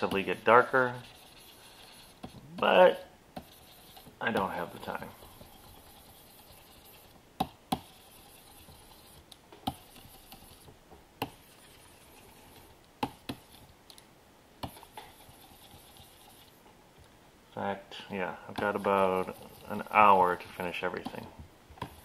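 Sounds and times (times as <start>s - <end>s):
faint room hiss: 0.0s - 22.0s.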